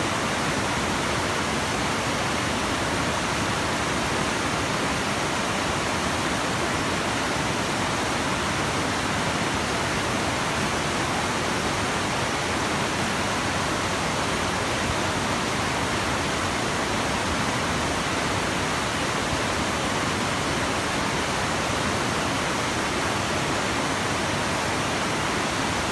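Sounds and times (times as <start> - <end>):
water rushing over rocks: 0.0 - 25.9.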